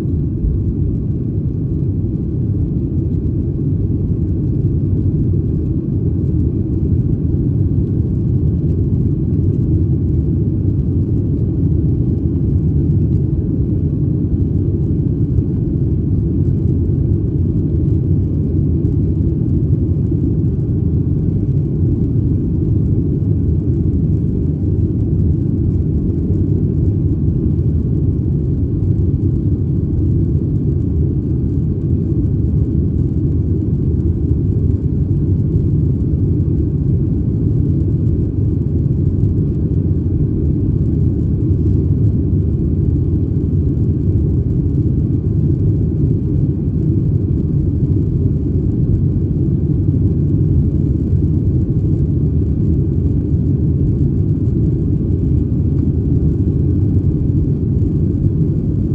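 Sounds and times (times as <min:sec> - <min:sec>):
jet engines rumbling in cabin: 0:00.0 - 0:58.9.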